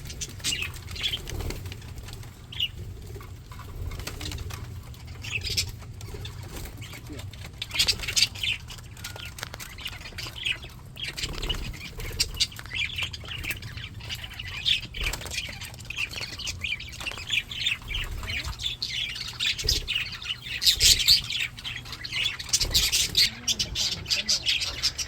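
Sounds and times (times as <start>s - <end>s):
budgies chattering: 0.0s - 25.0s.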